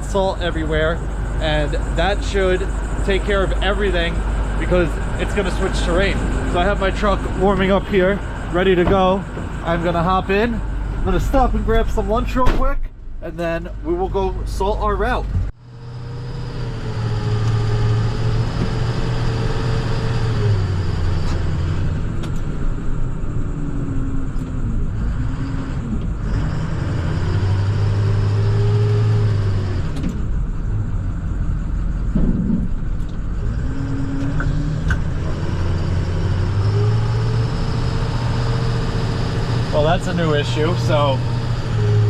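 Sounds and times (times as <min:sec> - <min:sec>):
truck diesel engine driving: 0:00.0 - 0:42.0.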